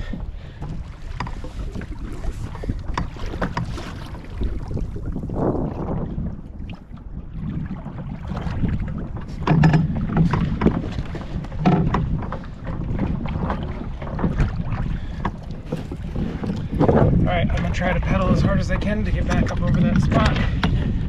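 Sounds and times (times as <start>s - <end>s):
knocks and thuds on kayak: 0.0s - 21.0s
water lapping against hull: 0.0s - 21.0s
wind buffeting microphone: 0.0s - 21.0s.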